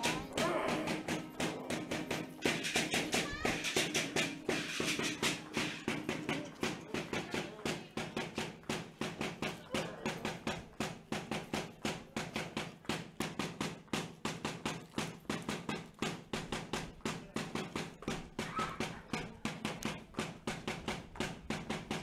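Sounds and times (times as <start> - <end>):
percussion beating quick rhythm: 0.0 - 22.0.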